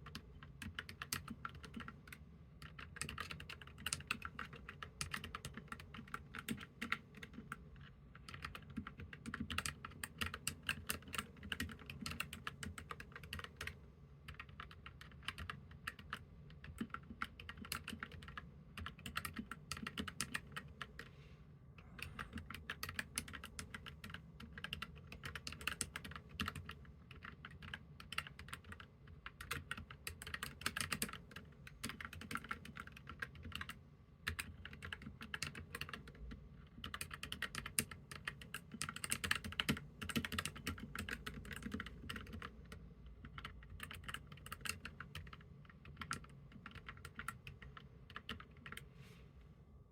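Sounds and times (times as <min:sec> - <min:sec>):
mechanical keyboard typing: 0:00.0 - 0:21.1, 0:21.9 - 0:48.8.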